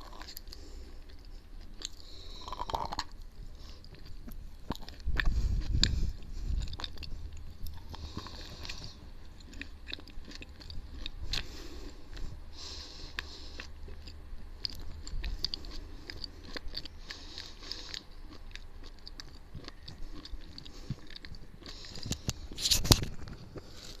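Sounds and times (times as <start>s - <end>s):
chewing crunchy chalk: 0.0s - 24.0s.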